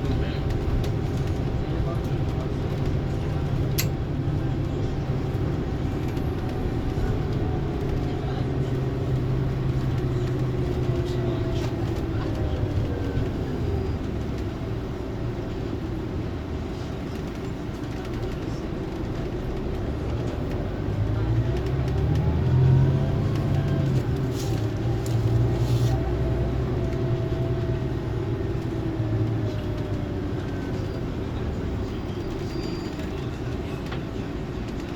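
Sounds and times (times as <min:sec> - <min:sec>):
coach diesel engine running: 0:00.0 - 0:34.9.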